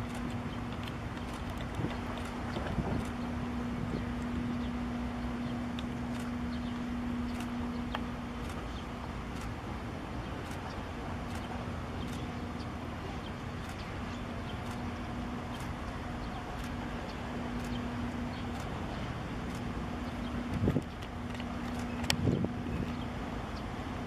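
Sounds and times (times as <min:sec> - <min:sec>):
ship engine hum and rumble: 0:00.0 - 0:24.0.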